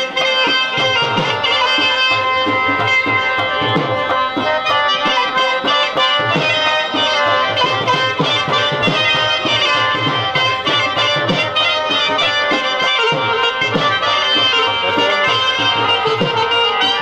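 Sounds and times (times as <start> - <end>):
sustained melody: 0.0 - 17.0
tabla drumming: 0.0 - 17.0.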